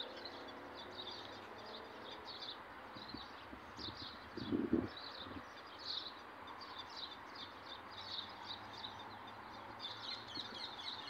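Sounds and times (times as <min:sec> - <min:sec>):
faint outdoor hiss: 0:00.0 - 0:11.0
small birds chirping: 0:00.0 - 0:11.0.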